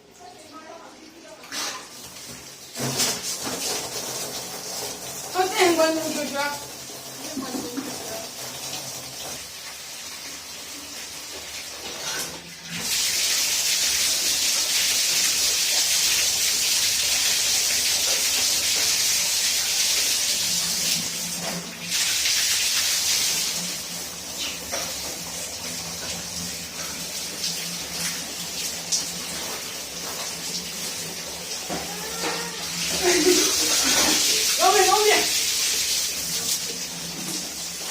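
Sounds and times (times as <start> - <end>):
water rushing from pipe: 0.0 - 37.9.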